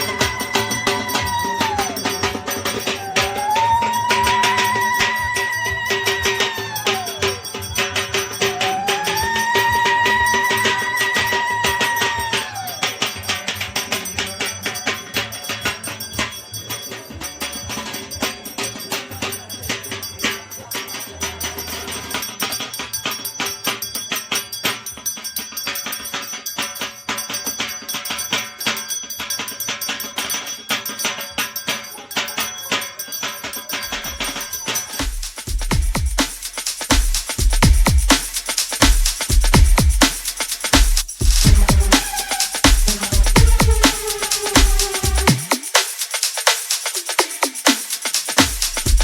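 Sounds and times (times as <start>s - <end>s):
bells ringing: 0.0s - 49.0s
clanging metal percussion: 0.0s - 49.0s
fast dhak drumming: 0.0s - 49.0s.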